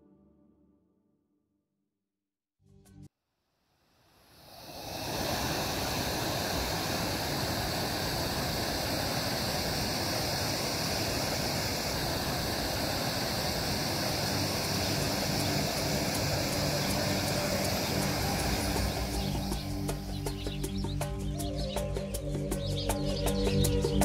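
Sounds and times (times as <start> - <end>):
steady rushing noise: 4.1 - 24.0.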